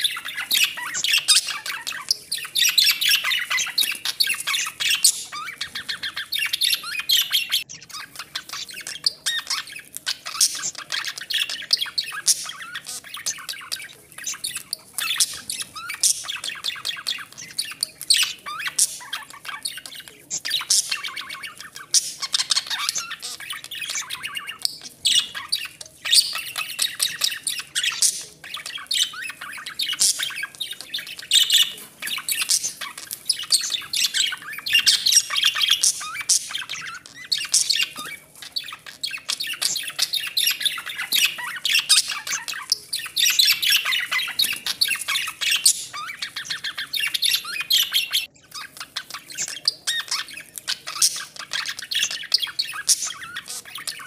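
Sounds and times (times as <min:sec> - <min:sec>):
budgerigars chattering: 0:00.0 - 0:54.0.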